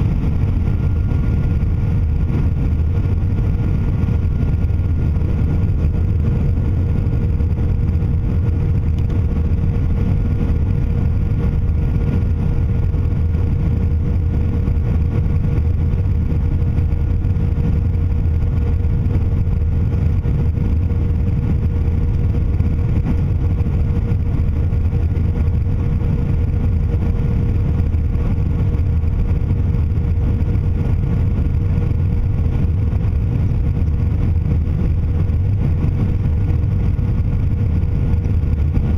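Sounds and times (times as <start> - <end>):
airliner cabin engine rumble: 0.0 - 38.9
constant hum tone: 0.0 - 38.9.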